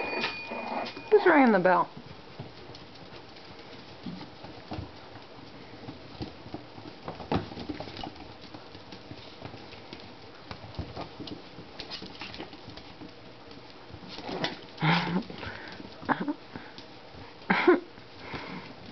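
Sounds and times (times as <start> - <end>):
puppies pattering and scuffling: 0.0 - 18.9.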